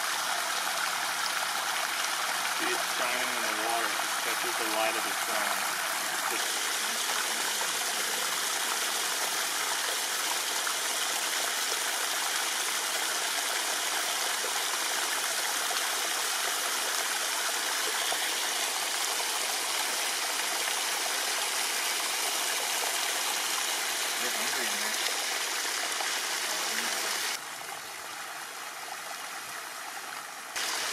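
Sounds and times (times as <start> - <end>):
stream water flowing: 0.0 - 30.9.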